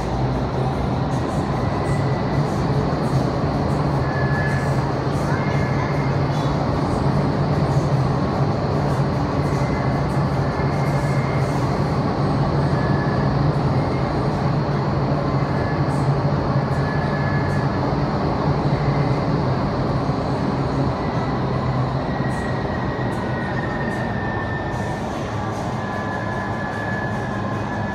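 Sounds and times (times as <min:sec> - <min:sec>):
wind tunnel air rushing: 0:00.0 - 0:27.9.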